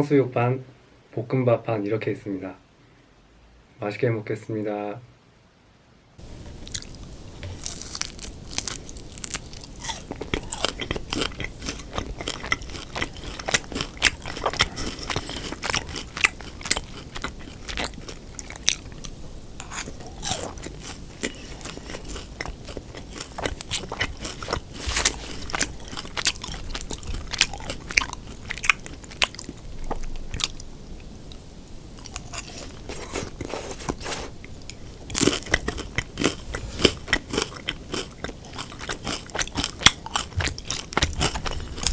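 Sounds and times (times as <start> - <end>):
crunching bites and chewing: 6.2 - 30.7, 32.0 - 41.9.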